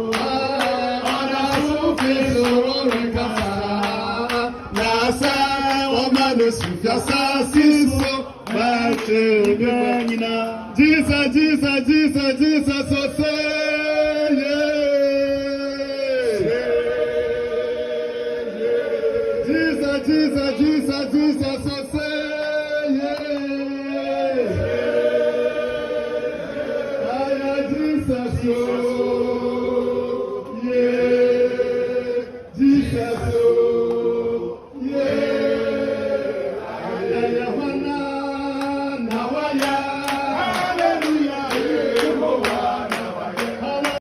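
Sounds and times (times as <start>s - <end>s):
group singing slow chant: 0.0s - 10.8s, 15.6s - 20.4s, 22.2s - 44.0s.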